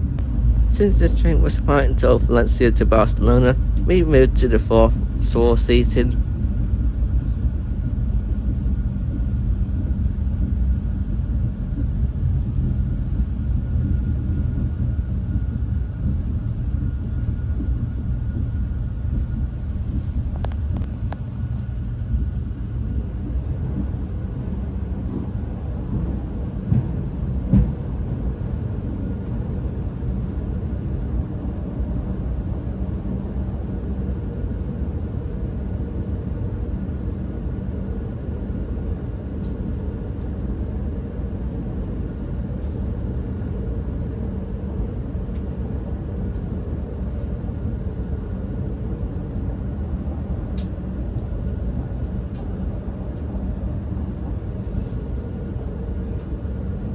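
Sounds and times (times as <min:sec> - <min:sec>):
train rumbling inside coach: 0:00.0 - 0:56.9.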